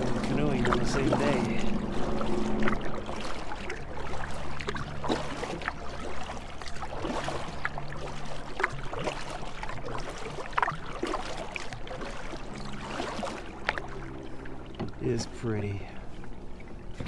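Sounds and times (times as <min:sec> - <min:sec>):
paddle splashes and drips: 0:00.0 - 0:17.0
water lapping at hull: 0:00.0 - 0:17.0.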